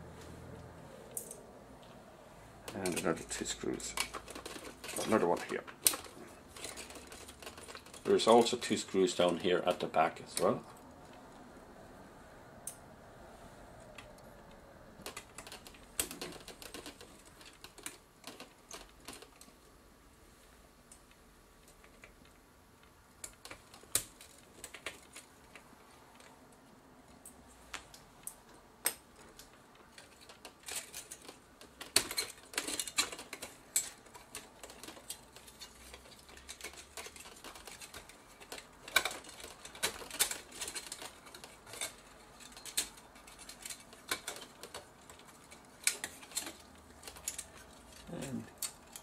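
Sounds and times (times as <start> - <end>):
small metal parts clicking: 1.1 - 1.4, 2.6 - 10.8, 15.0 - 19.6, 20.9 - 26.3, 27.1 - 49.0.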